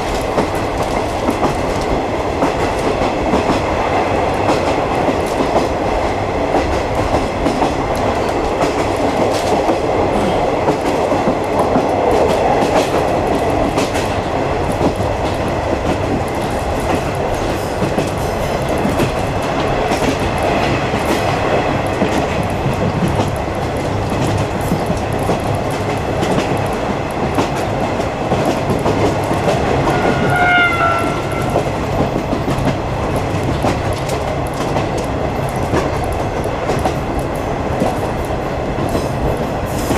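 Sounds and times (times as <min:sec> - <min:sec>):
train coach rumble: 0:00.0 - 0:39.9.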